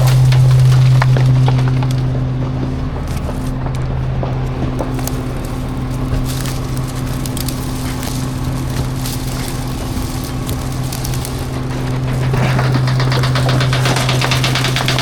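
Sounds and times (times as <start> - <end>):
garbage truck engine running: 0.0 - 15.0
trash cracking and splintering: 0.0 - 15.0.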